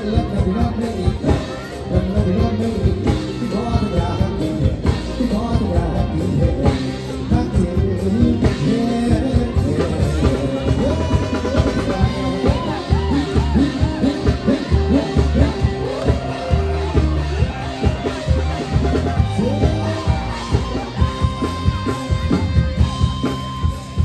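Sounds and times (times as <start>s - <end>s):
man singing into a microphone: 0.0s - 21.5s
backing music with drums and guitar: 0.0s - 24.0s.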